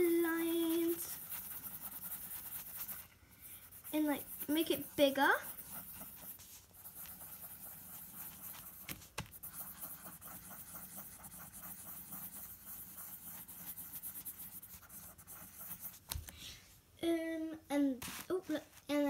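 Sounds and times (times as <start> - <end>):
pencil scribbling on paper: 0.0 - 16.2.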